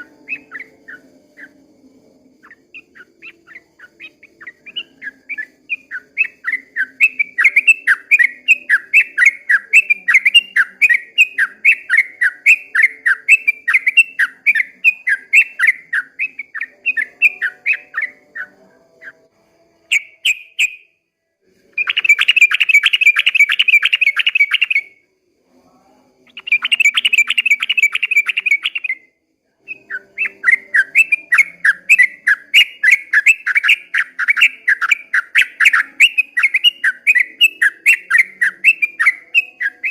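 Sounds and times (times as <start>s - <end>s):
bird chirping: 0.0s - 21.0s, 21.6s - 25.0s, 26.2s - 39.9s.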